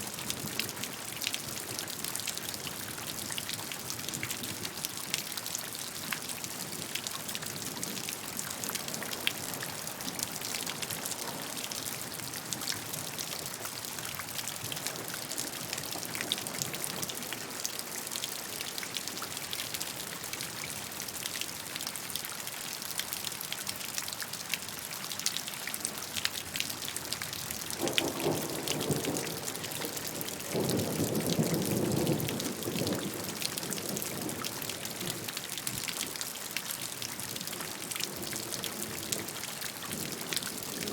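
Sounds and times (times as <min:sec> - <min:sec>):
gentle rain with dripping: 0:00.0 - 0:40.9.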